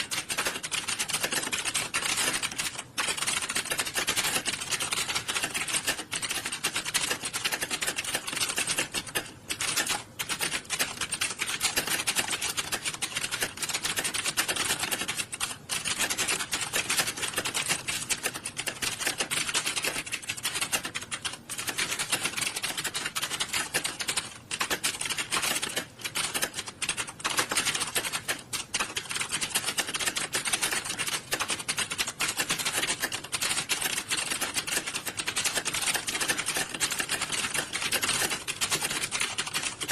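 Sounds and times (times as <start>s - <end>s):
keyboards typing clatter: 0.0s - 39.9s.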